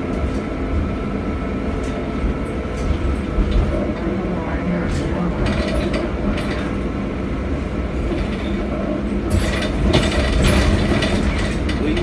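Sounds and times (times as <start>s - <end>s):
bus cabin rumble: 0.0s - 12.0s
rattling from bus body: 0.0s - 12.0s.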